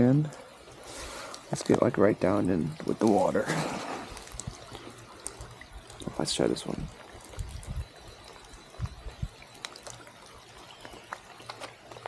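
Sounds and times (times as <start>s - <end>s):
small water drips: 0.0s - 12.0s
spring water trickling: 0.0s - 12.0s.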